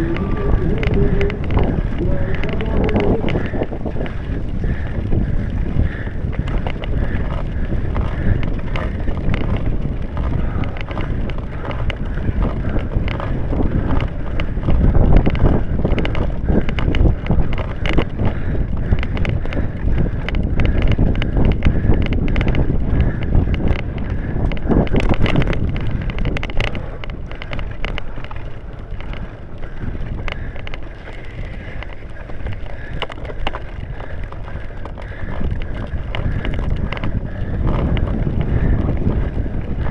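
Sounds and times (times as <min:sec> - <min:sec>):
bike rattling over rough ground: 0:00.0 - 0:39.9
wind buffeting microphone: 0:00.0 - 0:39.9.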